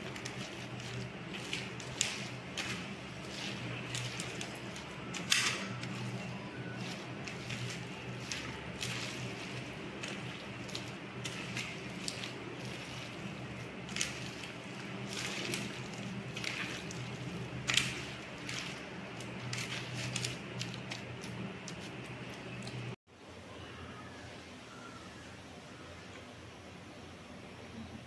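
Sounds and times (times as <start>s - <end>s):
hand mixing food wet squishing: 0.0s - 23.0s
steady low hum: 0.0s - 28.0s.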